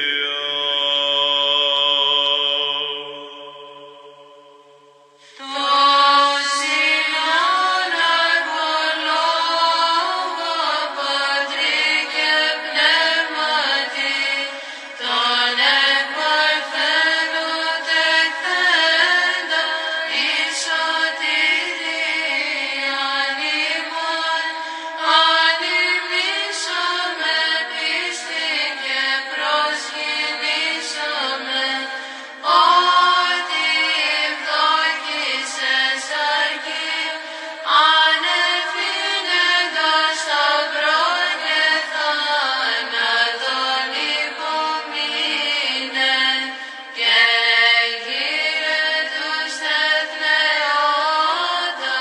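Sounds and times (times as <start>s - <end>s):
low sustained vocal drone: 0.0s - 52.0s
slow chanted singing: 0.0s - 52.0s.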